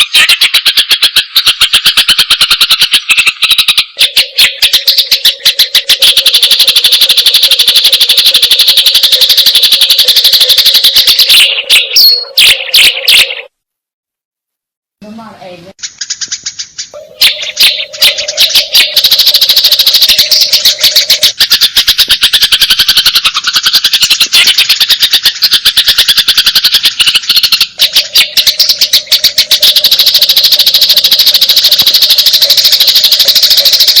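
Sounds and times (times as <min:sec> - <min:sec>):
songbird chirping chatter: 0:00.0 - 0:13.5, 0:15.1 - 0:34.0.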